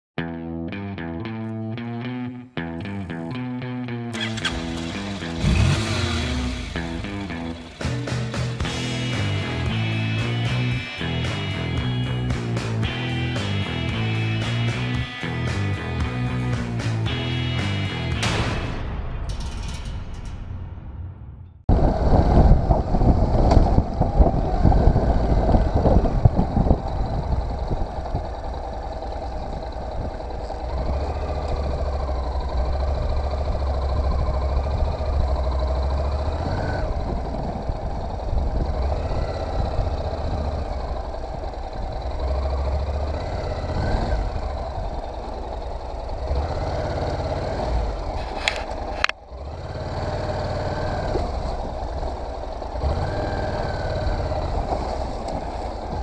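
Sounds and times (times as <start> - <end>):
motorcycle engine revving: 4.1 - 18.5, 21.7 - 56.0.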